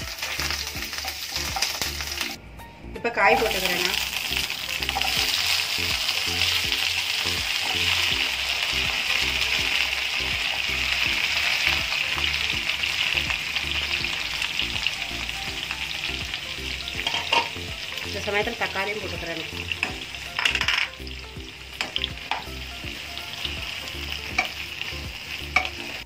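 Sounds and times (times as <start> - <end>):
hot oil sizzling: 0.0 - 2.4, 3.3 - 26.0.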